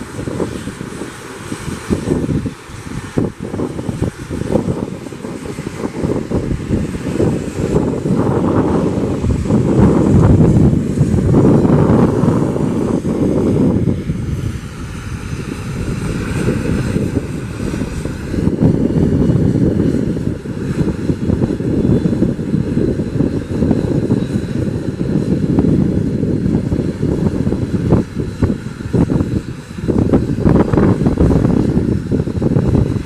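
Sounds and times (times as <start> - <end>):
turboprop engines running: 0.0 - 33.0.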